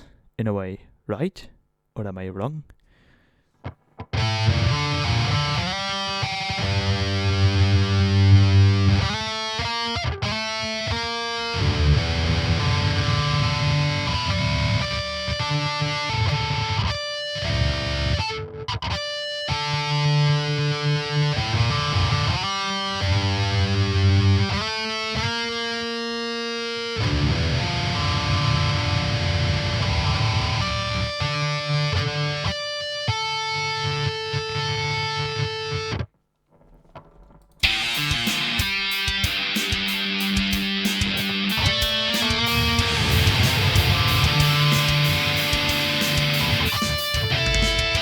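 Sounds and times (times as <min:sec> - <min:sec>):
distorted electric guitar riff: 0:03.7 - 0:48.0.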